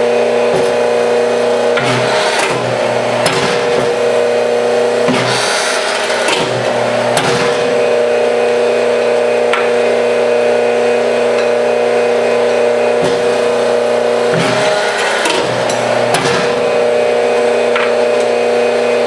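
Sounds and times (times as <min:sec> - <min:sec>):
forging press pump humming: 0:00.0 - 0:19.0.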